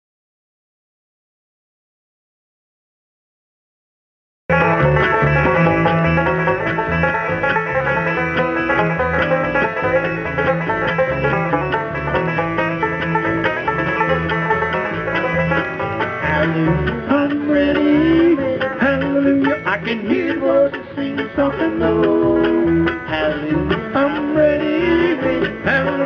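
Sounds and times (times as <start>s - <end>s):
banjo picking: 4.5s - 26.0s
bass line: 4.5s - 26.0s
guitar: 4.5s - 26.0s.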